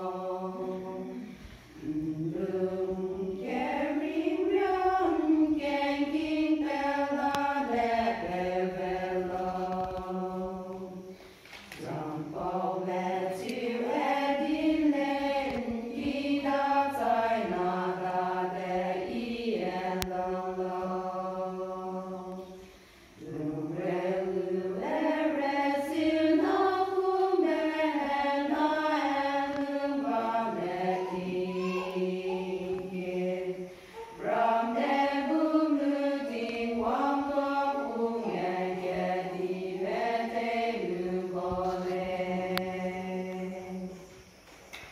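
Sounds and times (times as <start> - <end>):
women's choir singing: 0.0 - 44.9.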